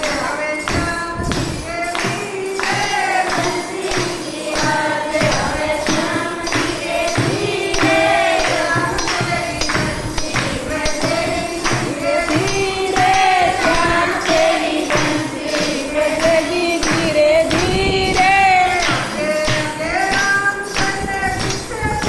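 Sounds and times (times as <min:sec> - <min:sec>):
people singing devotional song: 0:00.0 - 0:22.0
tambourine beat: 0:00.0 - 0:22.0.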